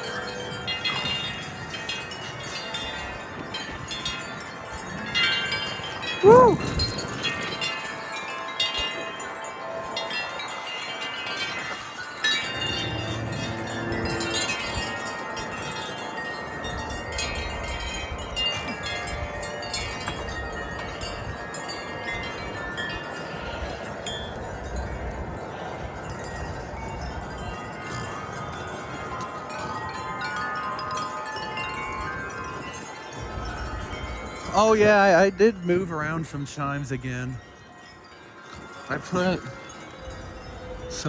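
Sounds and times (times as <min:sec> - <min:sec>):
metal wind chimes ringing: 0:00.0 - 0:41.0
wind rumble on microphone: 0:00.0 - 0:41.0.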